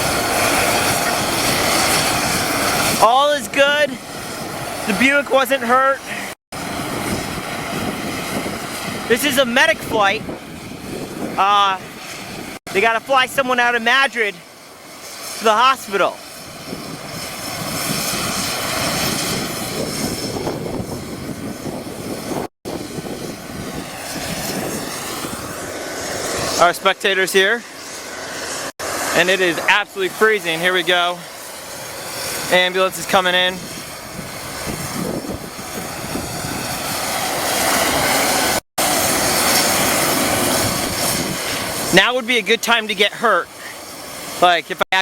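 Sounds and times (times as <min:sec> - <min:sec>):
helicopter rotor and turbine roar: 0:00.0 - 0:45.0.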